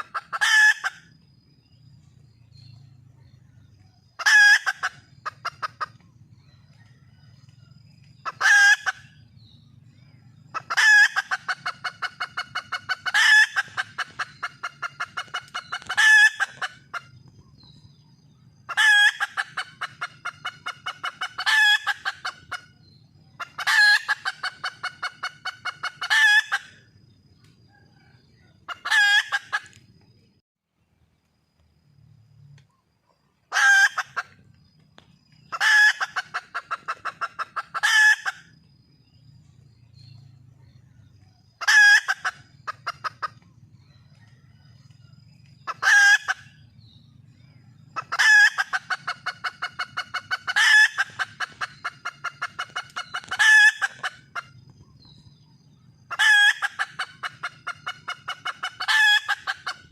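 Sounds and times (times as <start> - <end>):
junglefowl hen calling: 0.0 - 1.3, 3.2 - 29.9, 33.4 - 38.7, 40.0 - 46.8, 47.8 - 55.2, 55.9 - 59.9.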